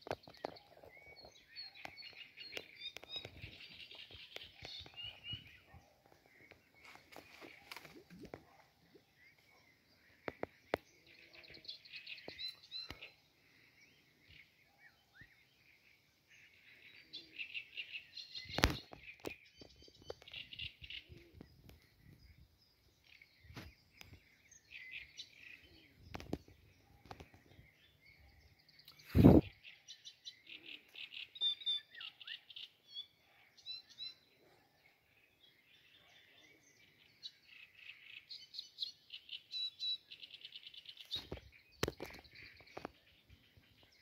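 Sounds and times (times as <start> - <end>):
songbirds chirping and trilling: 0.0 - 44.0.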